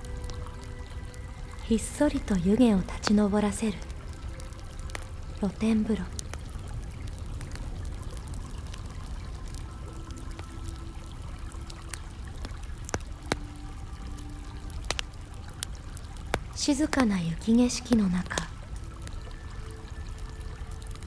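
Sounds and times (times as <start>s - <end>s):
water pouring and trickling: 0.0s - 21.0s
wood fire crackling: 0.0s - 21.0s.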